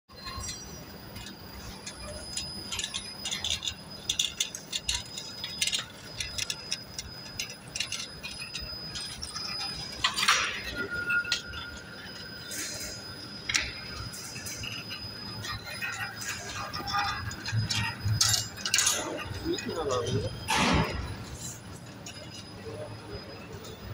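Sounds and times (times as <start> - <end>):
faint high machine whine: 0.1 - 23.9
metallic clinks and rattles: 0.2 - 23.9.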